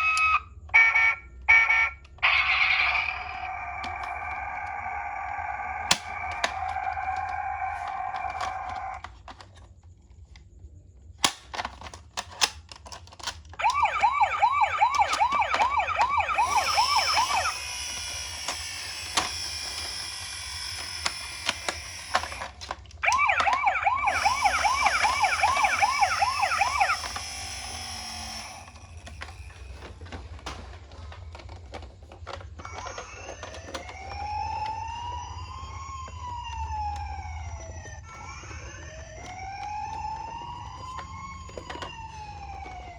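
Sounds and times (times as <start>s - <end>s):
toy electronic siren: 0.0s - 9.4s, 13.5s - 30.0s, 32.3s - 42.9s.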